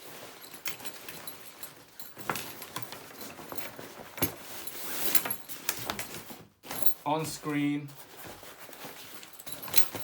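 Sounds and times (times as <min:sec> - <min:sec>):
backpack rustling: 0:00.0 - 0:07.1, 0:08.0 - 0:10.0.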